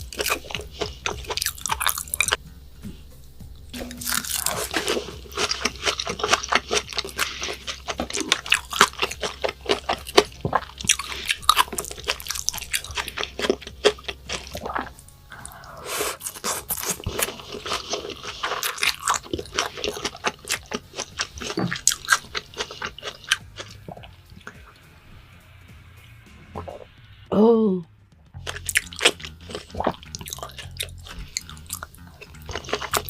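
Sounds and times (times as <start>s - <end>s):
person chewing food: 0.0s - 2.4s, 3.7s - 24.8s, 28.4s - 33.0s.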